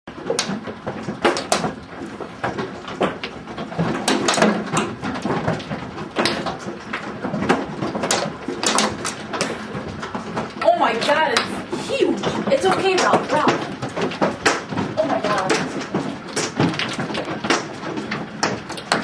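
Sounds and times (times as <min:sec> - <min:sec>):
hailstones clattering: 0:00.1 - 0:19.0.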